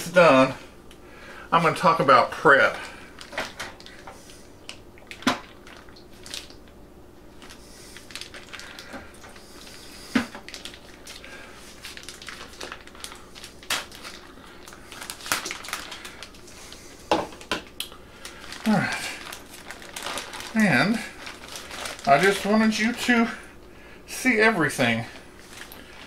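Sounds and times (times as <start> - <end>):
plastic bag rustling and crinkling: 1.7 - 6.6, 7.3 - 23.3, 24.7 - 26.0.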